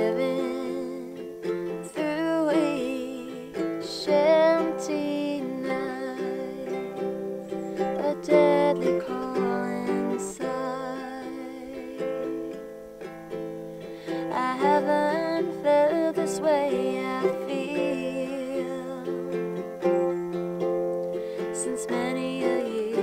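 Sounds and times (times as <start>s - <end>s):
woman singing gently: 0.0s - 12.6s, 14.1s - 19.7s, 21.3s - 23.0s
ukulele strumming: 0.0s - 23.0s.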